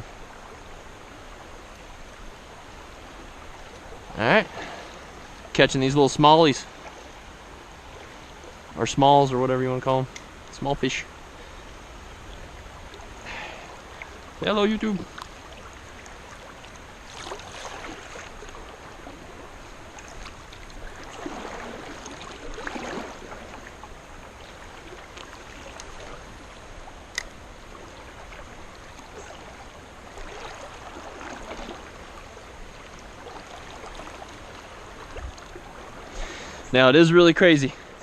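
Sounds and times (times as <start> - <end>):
creek water running: 0.0 - 38.0.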